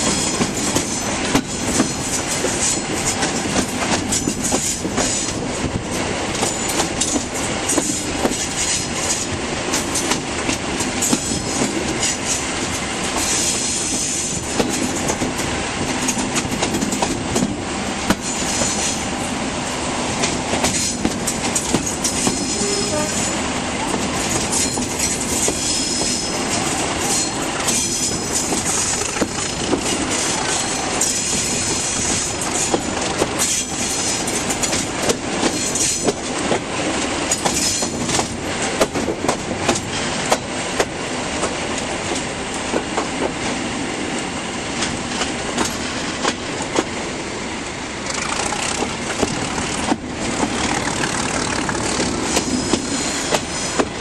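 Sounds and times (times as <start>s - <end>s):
diesel locomotive engines: 0.0s - 54.0s.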